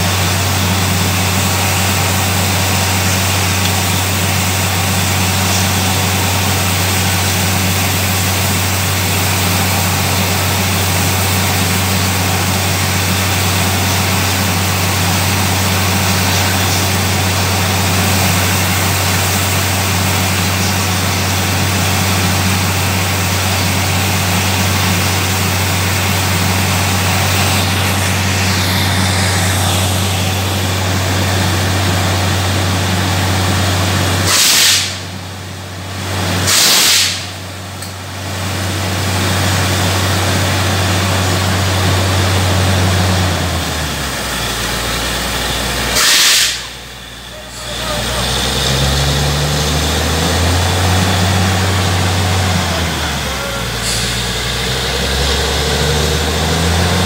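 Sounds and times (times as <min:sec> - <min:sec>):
water gushing spray: 0:00.0 - 0:35.2, 0:35.9 - 0:37.5, 0:38.5 - 0:57.0
drilling rig engine droning: 0:00.0 - 0:57.0.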